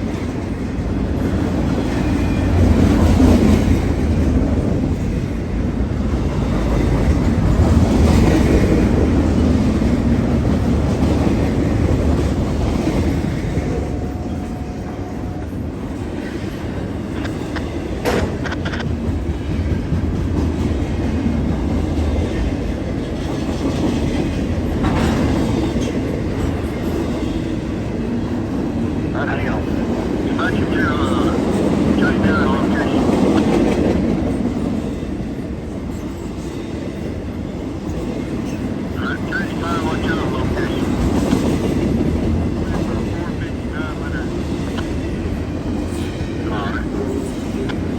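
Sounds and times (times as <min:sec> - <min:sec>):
freight train rumbling: 0:00.0 - 0:47.9.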